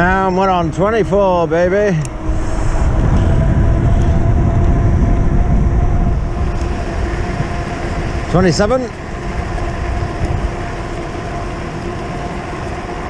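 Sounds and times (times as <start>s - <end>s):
bike tyres humming on tarmac: 0.0s - 13.0s
wind rushing over microphone: 0.0s - 13.0s.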